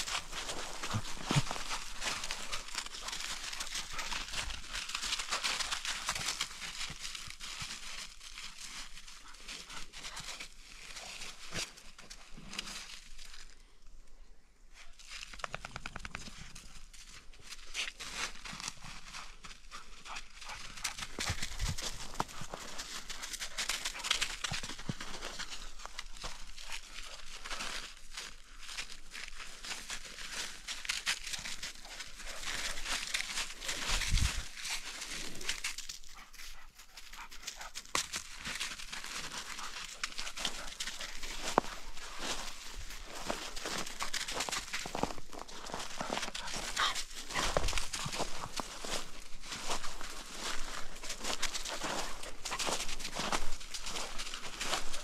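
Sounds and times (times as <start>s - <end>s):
footsteps crunching through snow: 0.0s - 13.6s, 16.4s - 55.0s.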